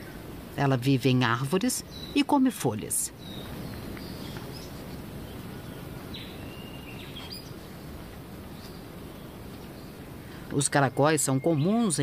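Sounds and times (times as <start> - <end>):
low background hiss: 0.0 - 12.0
faint chirping calls: 1.6 - 12.0.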